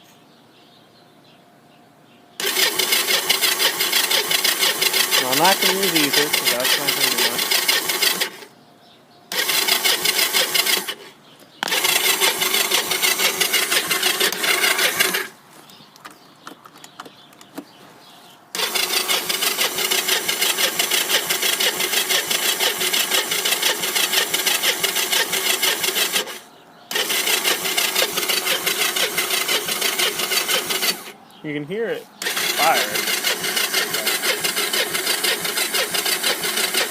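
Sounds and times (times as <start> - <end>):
electric starter cranking engine: 2.4 - 8.5, 9.3 - 15.4, 18.5 - 31.2, 32.2 - 36.9.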